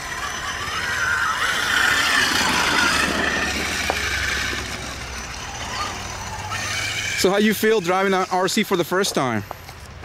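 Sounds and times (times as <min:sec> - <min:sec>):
electric motor whine of toy truck: 0:00.0 - 0:08.7.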